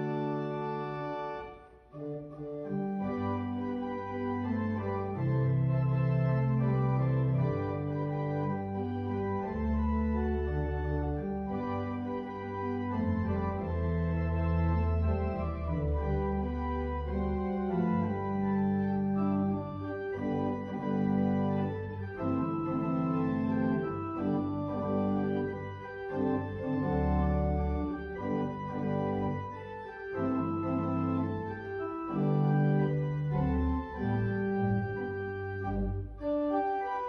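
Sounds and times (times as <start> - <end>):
organ playing slow chords: 0.0 - 37.0.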